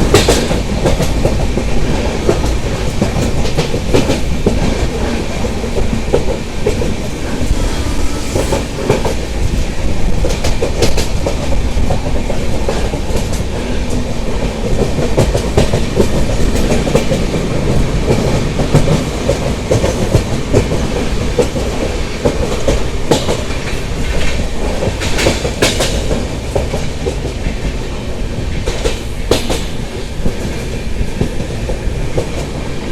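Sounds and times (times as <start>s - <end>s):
wheels clacking over rail joints: 0.0s - 7.5s, 8.4s - 27.9s
train wheels rumbling on track: 0.0s - 32.9s.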